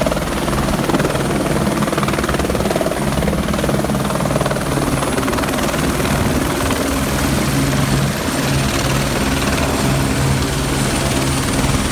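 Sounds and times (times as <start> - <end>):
helicopter hovering: 0.0 - 11.9.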